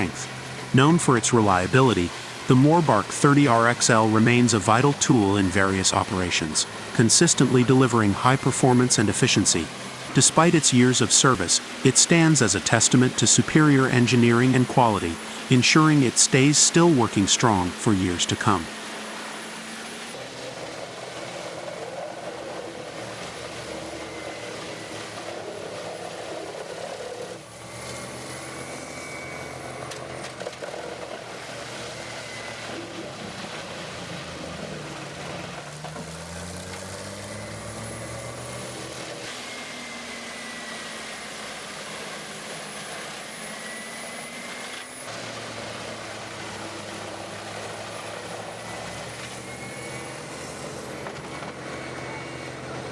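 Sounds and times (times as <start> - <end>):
diesel tree chipper running: 0.0 - 52.9.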